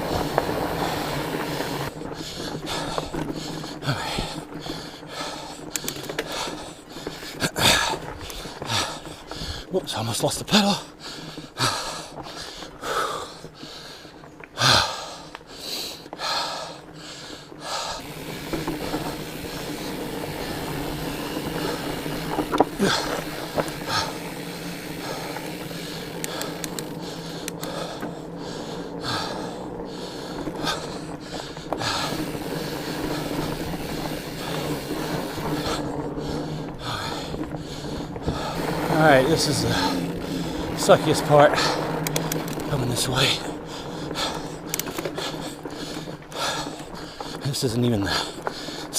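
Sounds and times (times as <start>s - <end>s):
person breathing hard: 0.0s - 9.8s, 10.6s - 48.9s
bike rolling over rocky trail: 0.0s - 48.9s.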